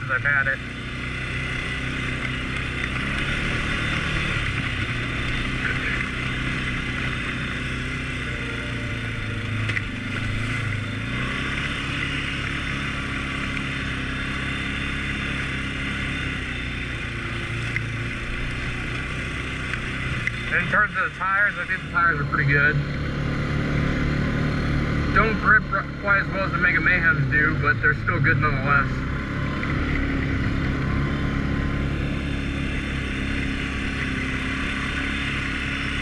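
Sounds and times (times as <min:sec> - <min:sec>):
atv engine running: 0:00.0 - 0:36.0.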